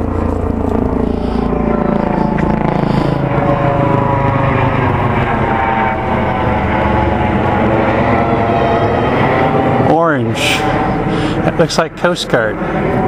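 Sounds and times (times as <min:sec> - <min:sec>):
helicopter passing overhead: 0:00.0 - 0:13.0.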